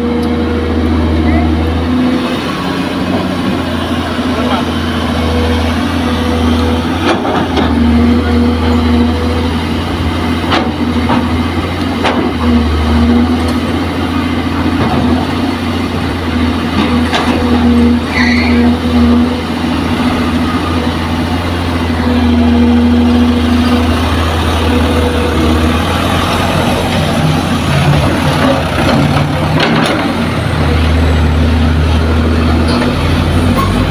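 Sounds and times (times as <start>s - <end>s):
dump truck engine running: 0.0s - 33.9s
excavator diesel engine: 0.0s - 33.9s.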